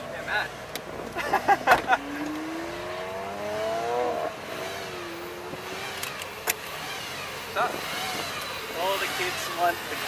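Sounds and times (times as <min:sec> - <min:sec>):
car engine accelerating: 0:00.3 - 0:10.0.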